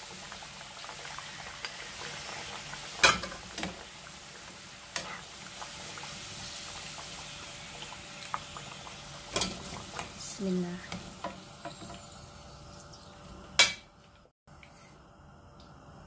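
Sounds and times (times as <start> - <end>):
potatoes sizzling in hot oil: 0.0 - 13.5.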